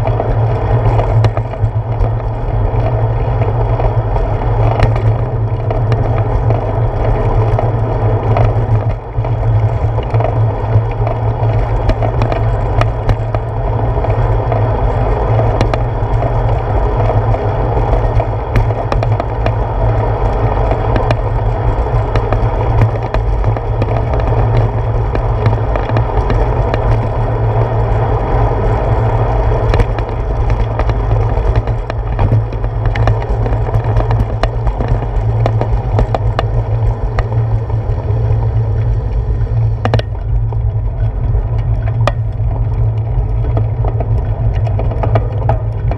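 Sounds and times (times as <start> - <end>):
bicycle clicks and knocks: 0.0 - 45.9
wind and road vibration rumble: 0.0 - 45.9.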